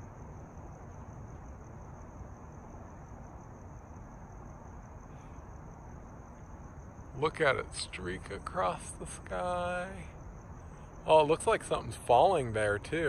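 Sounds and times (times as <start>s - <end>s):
crickets trilling: 0.0s - 13.0s
low background rumble: 0.0s - 13.0s.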